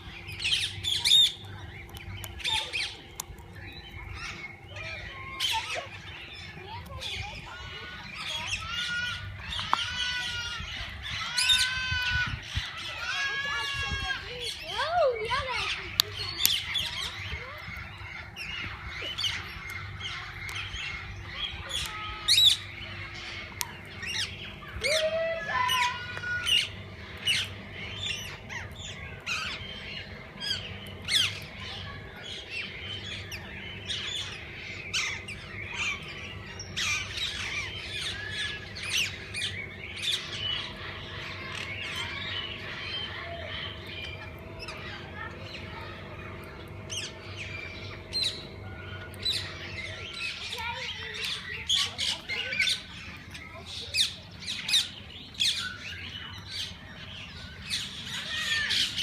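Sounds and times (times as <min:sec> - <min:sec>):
faint low hum: 0:00.0 - 0:59.0
parakeets squawking and chirping: 0:00.0 - 0:59.0.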